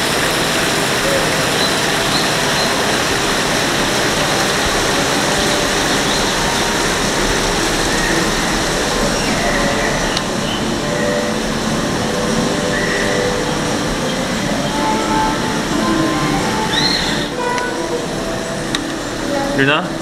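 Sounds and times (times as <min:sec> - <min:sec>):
aquarium hall ambience: 0:00.0 - 0:20.0.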